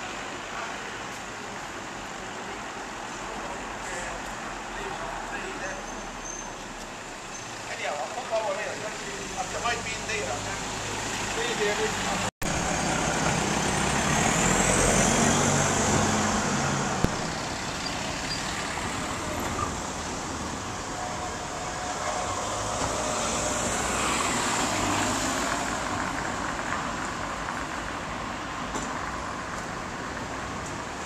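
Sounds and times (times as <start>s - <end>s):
cars and van driving past: 3.7s - 31.0s.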